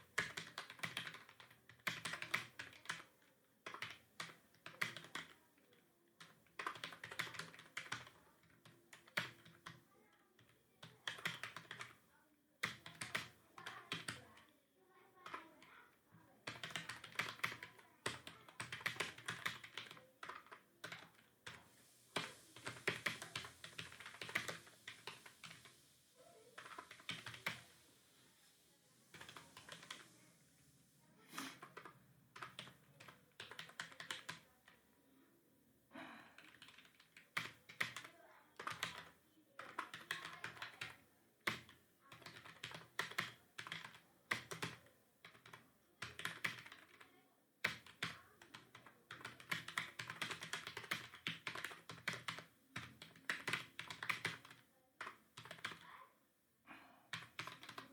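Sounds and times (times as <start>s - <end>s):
computer keyboard typing: 0.0s - 9.8s, 10.4s - 12.0s, 12.6s - 14.5s, 15.2s - 15.7s, 16.4s - 25.8s, 26.5s - 27.8s, 29.1s - 30.2s, 31.4s - 34.8s, 36.4s - 55.9s, 57.1s - 57.9s.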